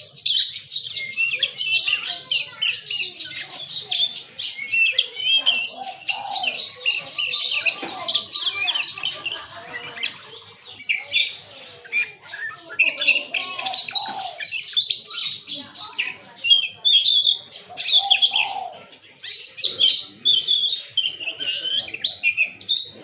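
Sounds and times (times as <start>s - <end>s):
bird singing chirps and whistles: 0.0s - 8.6s, 10.6s - 23.0s
other birds calling: 0.0s - 23.0s.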